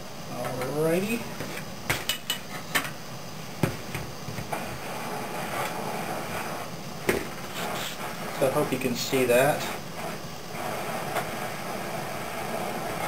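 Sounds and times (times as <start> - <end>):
propane torch hissing: 0.0 - 13.0.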